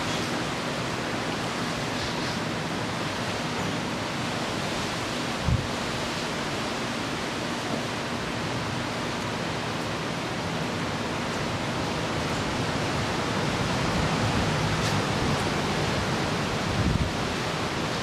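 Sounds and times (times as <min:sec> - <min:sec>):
ocean waves breaking on shore: 0:00.0 - 0:18.0.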